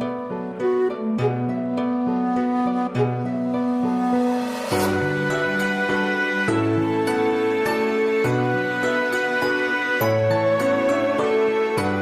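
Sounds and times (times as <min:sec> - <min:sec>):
slow gentle background music: 0:00.0 - 0:12.0.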